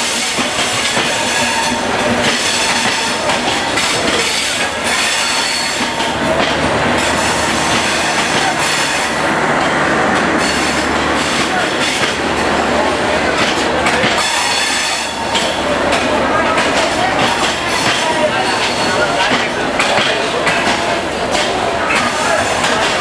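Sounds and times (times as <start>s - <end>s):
passenger train rumbling past: 0.0s - 23.0s
train wheels knocking: 0.0s - 23.0s.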